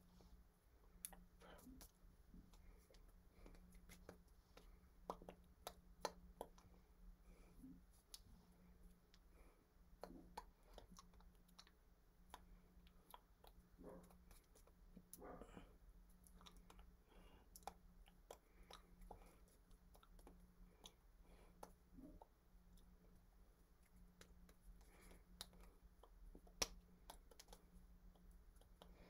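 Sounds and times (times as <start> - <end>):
low electrical hum: 0.0 - 29.0
hands and mouth clicks and taps: 0.9 - 6.8, 8.9 - 29.0.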